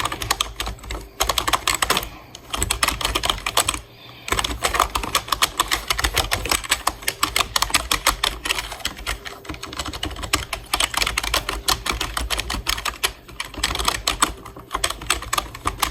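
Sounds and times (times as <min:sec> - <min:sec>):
computer keyboard typing: 0:00.0 - 0:15.9.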